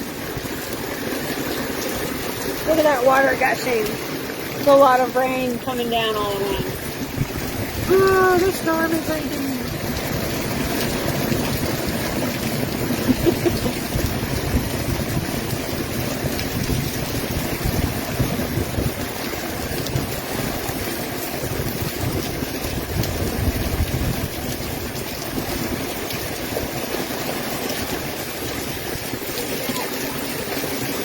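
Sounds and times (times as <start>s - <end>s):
heavy rain: 0.0s - 31.0s
runoff water gushing: 0.0s - 31.0s
wind gusting over microphone: 0.0s - 31.0s.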